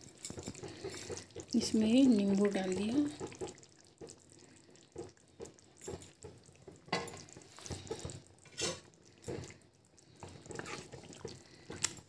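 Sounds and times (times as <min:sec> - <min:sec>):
curry simmering in a pan: 0:00.0 - 0:12.0.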